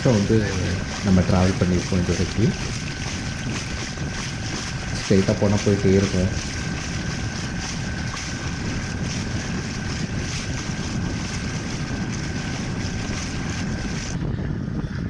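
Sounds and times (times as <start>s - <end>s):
water rushing past hull: 0.0s - 14.2s
boat engine running: 0.0s - 15.0s
wind buffeting microphone: 0.0s - 15.0s.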